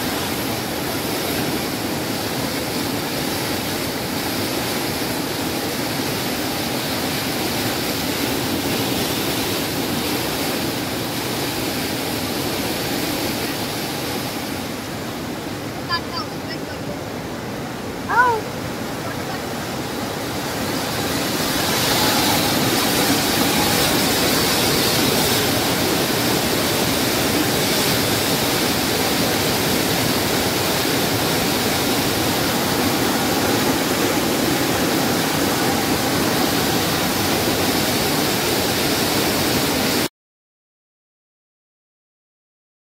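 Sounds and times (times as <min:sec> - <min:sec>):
flooded river roaring: 0:00.0 - 0:40.1.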